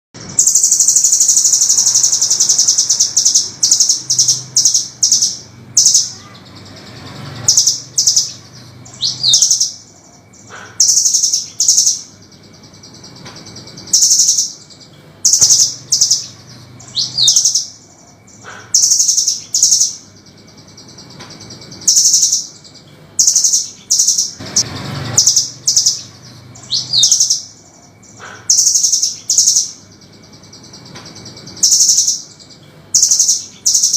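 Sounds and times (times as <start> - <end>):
nuthatch trilled calls: 0.4 - 33.9.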